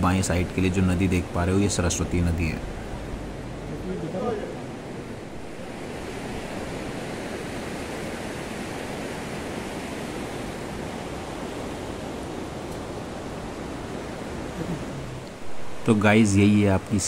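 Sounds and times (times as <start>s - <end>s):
mountain river rushing: 0.0s - 17.0s.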